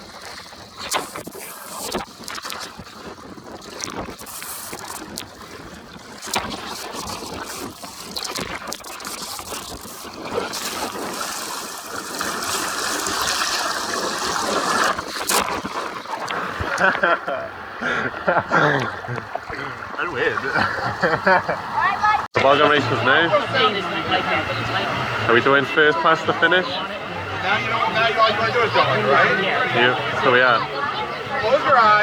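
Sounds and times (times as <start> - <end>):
water rushing down a tube slide: 0.0 - 26.8.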